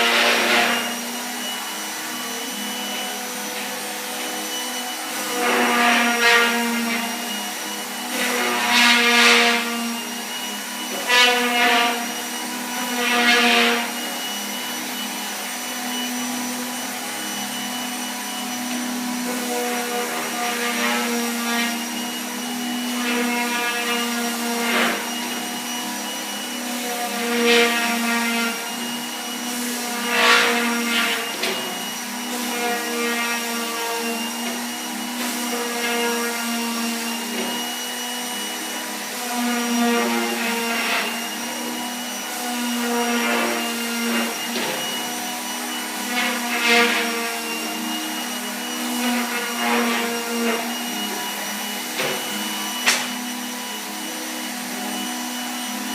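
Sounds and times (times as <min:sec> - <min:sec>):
power sander on wood: 0:00.0 - 0:55.9.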